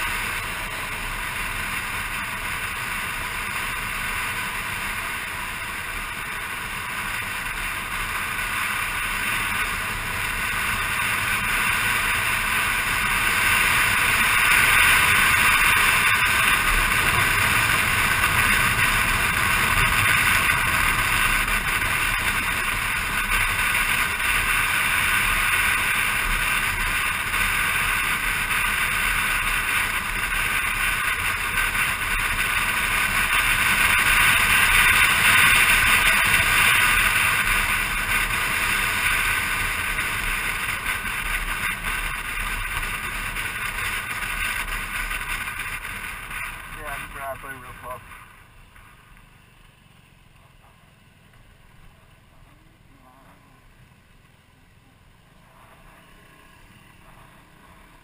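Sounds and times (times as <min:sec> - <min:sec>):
motor scooter engine: 0:00.0 - 0:58.0
road noise: 0:00.0 - 0:58.0.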